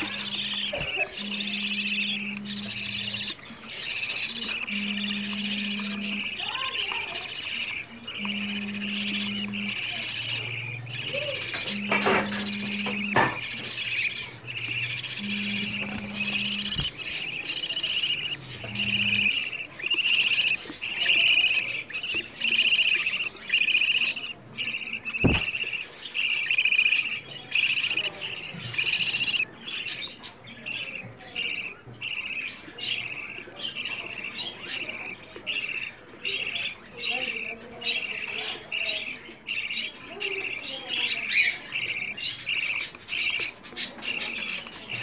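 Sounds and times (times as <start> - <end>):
bird chicks begging calls: 0.0 - 45.0.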